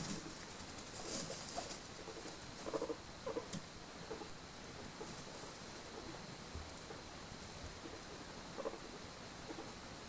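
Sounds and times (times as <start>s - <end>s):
guinea pigs rustling: 0.0s - 10.0s
steady hiss: 0.0s - 10.0s.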